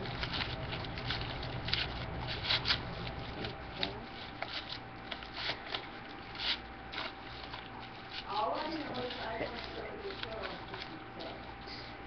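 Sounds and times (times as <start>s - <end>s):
ribbon rustling and scraping: 0.0s - 12.0s.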